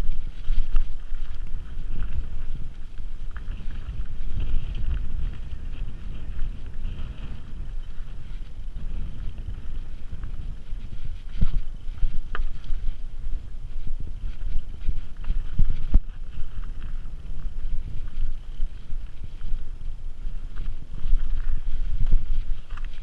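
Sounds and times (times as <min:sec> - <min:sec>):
bike rattles and clicks: 0:00.0 - 0:23.0
mountain bike rolling over rocks: 0:00.0 - 0:23.0
wind buffeting microphone: 0:00.0 - 0:23.0.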